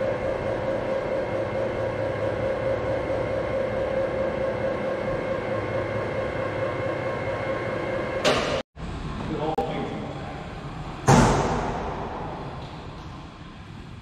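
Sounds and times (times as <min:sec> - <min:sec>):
heavy machinery droning: 0:00.0 - 0:14.0.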